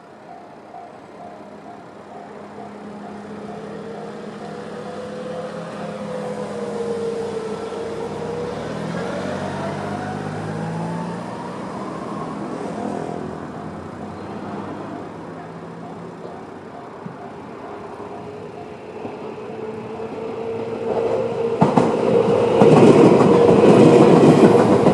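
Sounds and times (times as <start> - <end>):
electric train passing: 0.0 - 24.9
train motor and gear whine: 0.0 - 24.9.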